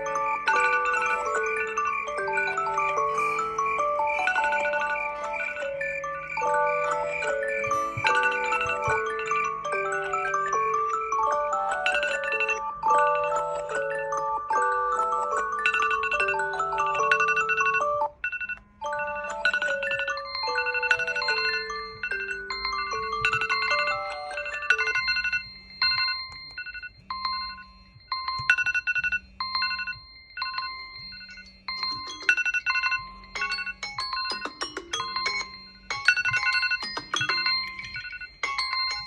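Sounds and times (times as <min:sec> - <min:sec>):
electronic alarm melody: 0:00.0 - 0:39.0.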